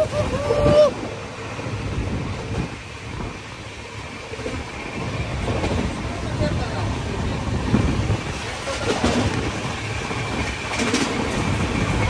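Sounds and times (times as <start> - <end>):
train wheels rumbling on track: 0.0 - 12.0
wind buffeting microphone: 0.0 - 12.0.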